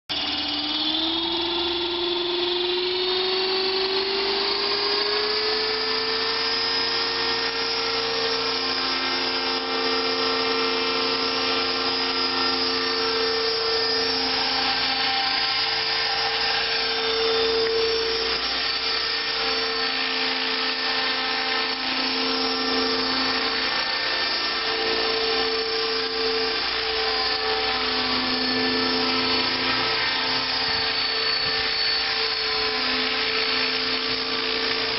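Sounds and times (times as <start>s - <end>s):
rc helicopter motor and rotor whine: 0.1s - 34.9s.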